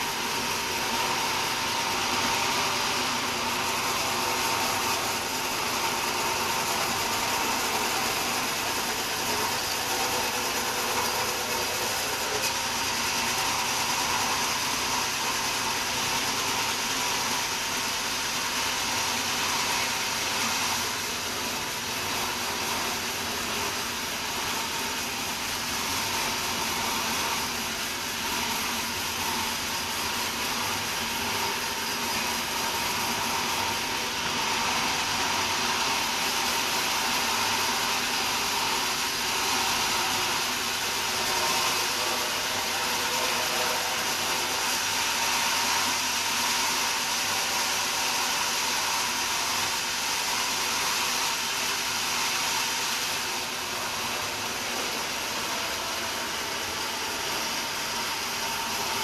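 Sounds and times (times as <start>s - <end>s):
sawmill saw whirring: 0.0s - 59.0s.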